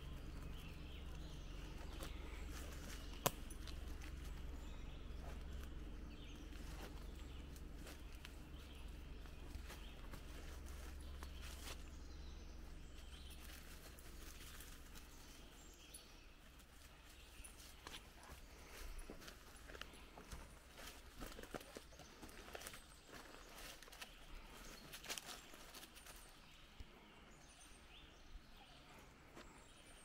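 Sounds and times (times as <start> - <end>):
footsteps on forest floor: 0.0 - 27.2, 29.2 - 30.0
low steady rumble: 0.0 - 30.0.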